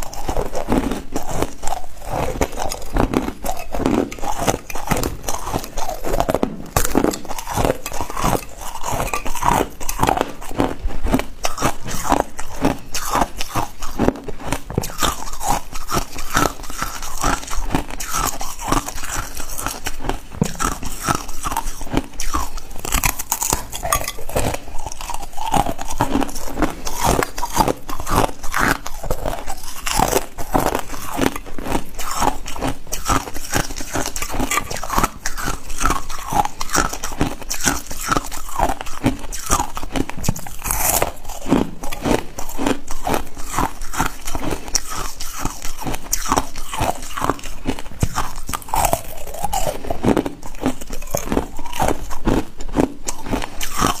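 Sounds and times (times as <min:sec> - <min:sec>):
ice crunching between teeth: 0:00.0 - 0:54.0.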